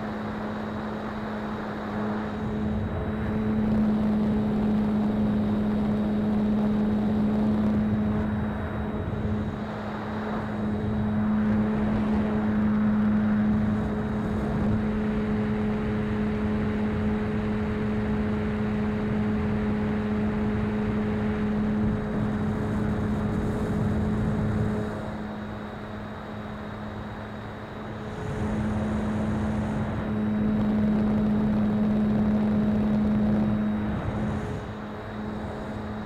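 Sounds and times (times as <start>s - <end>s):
model plane motor humming: 0.0s - 36.0s
wind rush: 1.5s - 25.3s, 27.9s - 36.0s.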